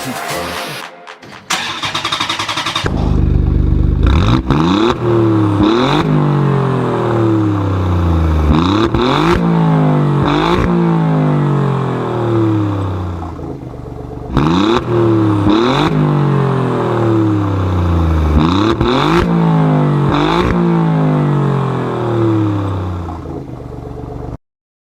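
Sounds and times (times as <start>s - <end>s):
car engine revving: 1.5s - 24.3s.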